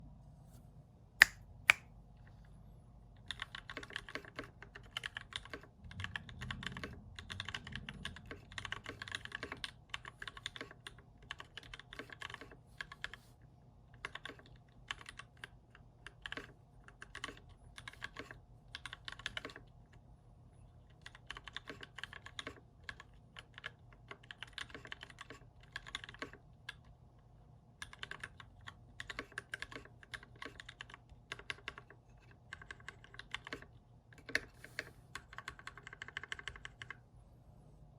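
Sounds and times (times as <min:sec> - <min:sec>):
typing on mechanical keyboard: 0:03.2 - 0:13.2, 0:13.9 - 0:20.0, 0:20.8 - 0:26.9, 0:27.8 - 0:37.0.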